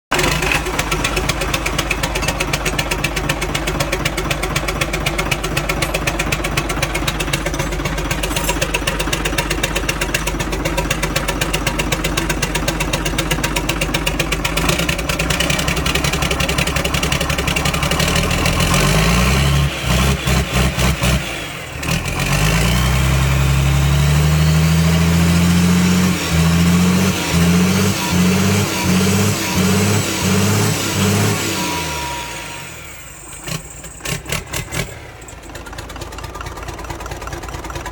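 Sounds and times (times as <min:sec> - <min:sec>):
diesel engine idling and revving: 0:00.0 - 0:37.9.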